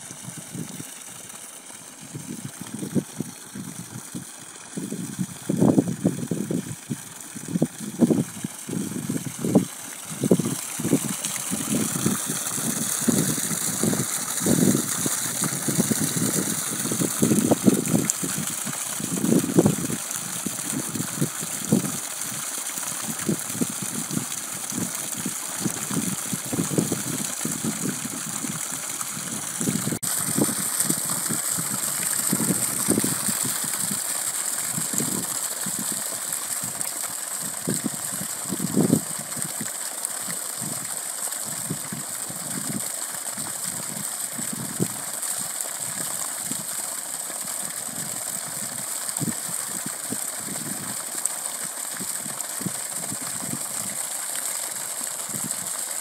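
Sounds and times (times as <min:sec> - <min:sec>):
water gushing from a pipe: 0:00.0 - 0:56.0.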